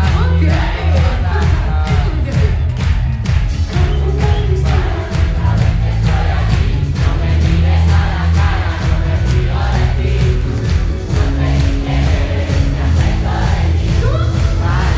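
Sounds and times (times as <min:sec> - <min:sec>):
people singing: 0:00.0 - 0:02.6, 0:03.7 - 0:14.9
crowd noise: 0:00.0 - 0:14.9
loud pop concert music: 0:00.0 - 0:14.9.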